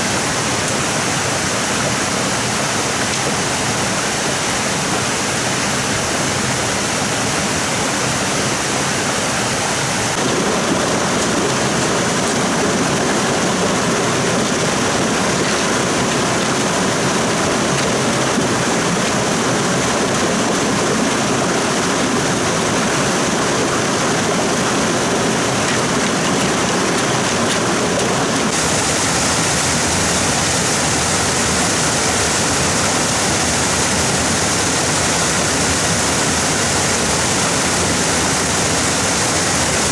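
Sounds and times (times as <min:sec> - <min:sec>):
fast-flowing stream rushing: 0:00.0 - 0:39.9.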